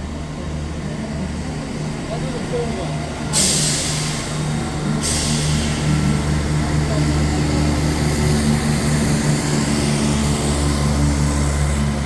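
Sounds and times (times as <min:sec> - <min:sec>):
train running with low hum: 0:00.0 - 0:12.0.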